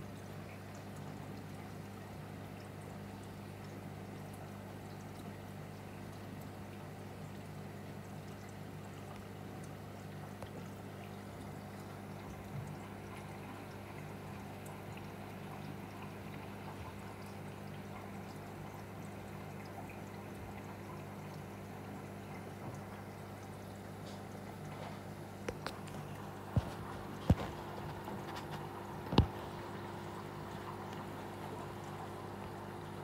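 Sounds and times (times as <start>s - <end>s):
aquarium filter motor hum: 0.0s - 33.0s
water trickling into tank: 0.0s - 33.0s.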